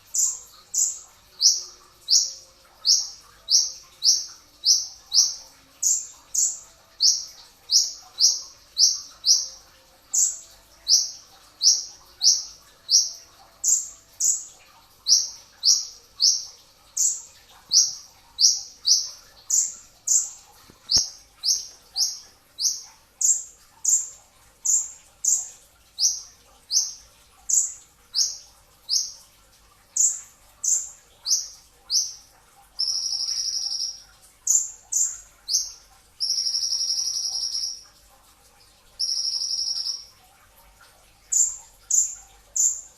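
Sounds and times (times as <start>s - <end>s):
sunbird chirping: 0.0s - 29.2s, 32.8s - 37.8s, 39.0s - 40.1s.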